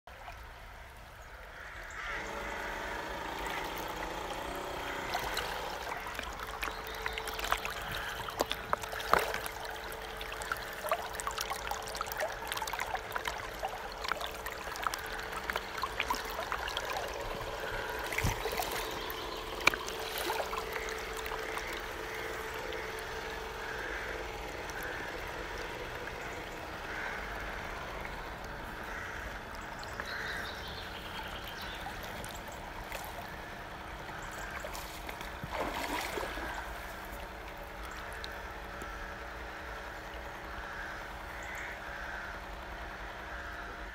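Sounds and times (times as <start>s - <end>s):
faint boat motor hum: 0.0s - 43.9s
river water rushing and splashing: 2.1s - 38.7s.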